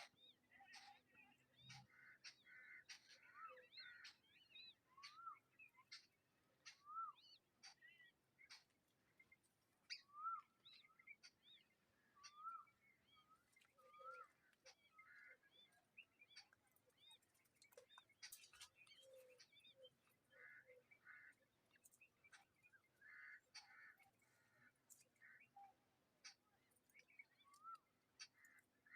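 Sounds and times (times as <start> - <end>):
bird chirps: 0.0 - 28.9.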